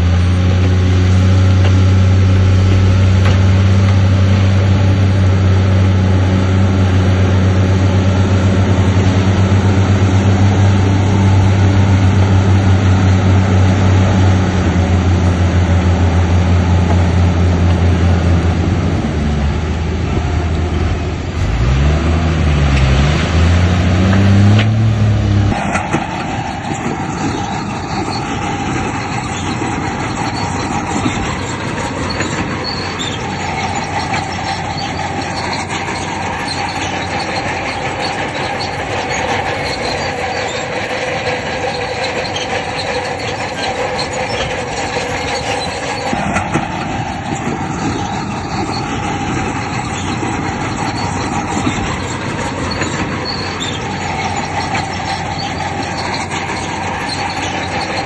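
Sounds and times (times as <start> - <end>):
bulldozer diesel engine revving: 0.0 - 58.0
crawler tracks clanking and squealing: 0.0 - 58.0.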